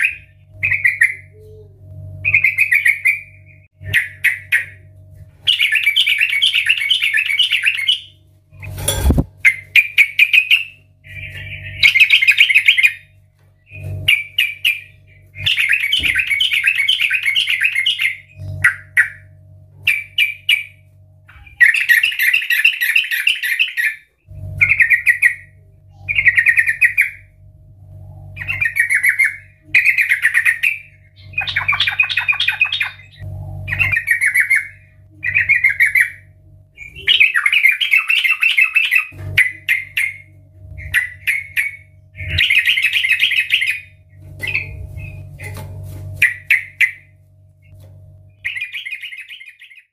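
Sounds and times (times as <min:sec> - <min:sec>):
bird singing: 0:00.0 - 0:08.2, 0:09.4 - 0:27.4, 0:28.2 - 0:45.6, 0:46.2 - 0:47.8, 0:48.4 - 0:49.9.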